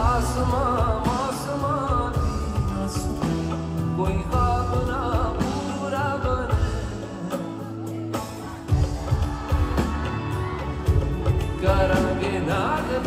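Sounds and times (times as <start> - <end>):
man singing: 0.0 - 9.9, 11.2 - 13.0
drums: 0.0 - 13.0
live pop band: 0.0 - 13.0.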